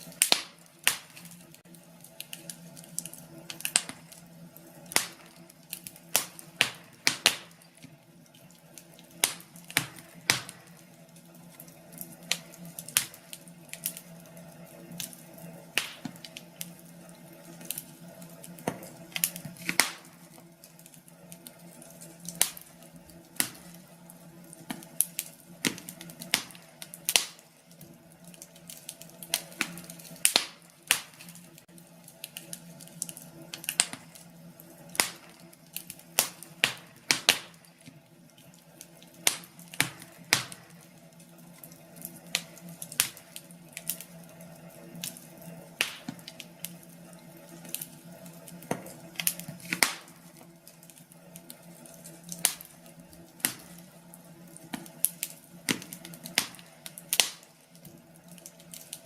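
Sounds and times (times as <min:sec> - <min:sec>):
fire hissing: 0:00.0 - 0:59.0
wood fire crackling and popping: 0:00.0 - 0:59.0.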